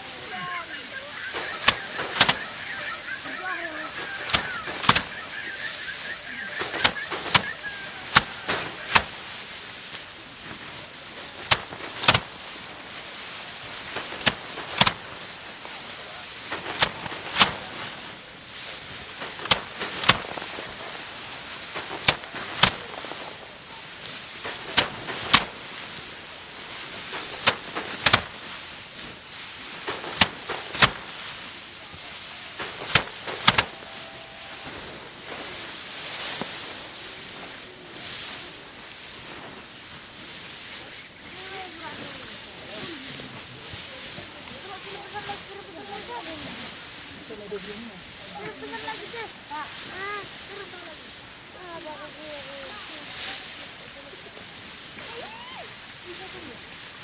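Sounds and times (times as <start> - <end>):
rice stalks slammed down: 0.0 - 57.0.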